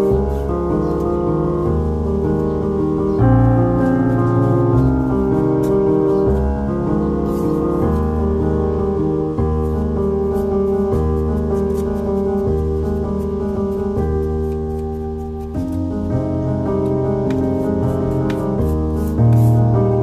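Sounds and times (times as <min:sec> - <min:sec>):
slow piano chords: 0:00.0 - 0:20.0
steady bass: 0:00.0 - 0:20.0.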